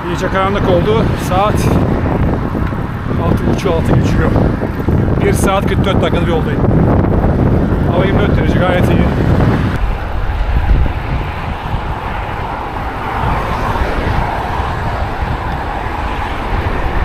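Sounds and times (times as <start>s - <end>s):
road traffic: 0.0s - 17.0s
wind rushing over microphone: 0.0s - 17.0s.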